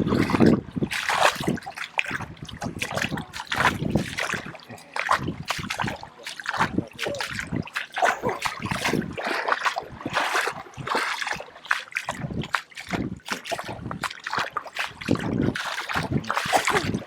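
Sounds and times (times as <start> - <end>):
footsteps splashing in shallow water: 0.0 - 17.0.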